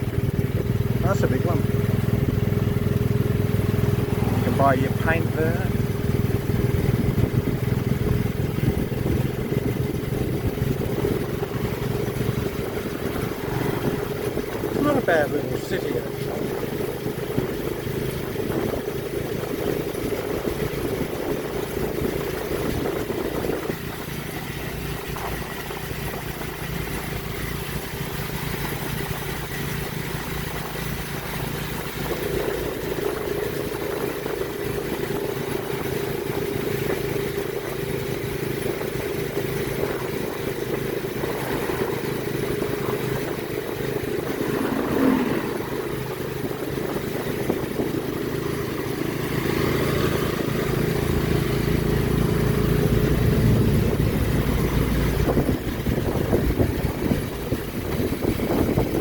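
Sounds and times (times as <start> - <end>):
motorcycle taxi engine running: 0.0 - 59.0
road noise: 0.0 - 59.0.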